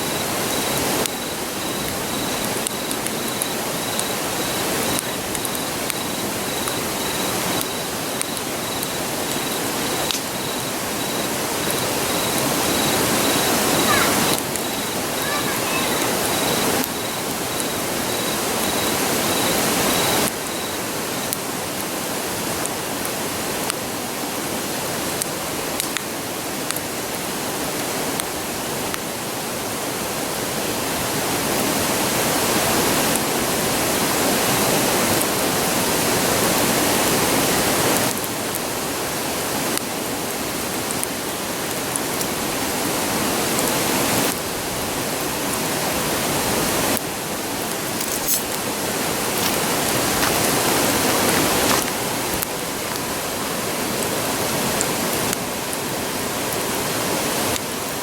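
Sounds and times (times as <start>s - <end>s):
faint campfire crackles: 0.0s - 58.0s
river rushing: 0.0s - 58.0s.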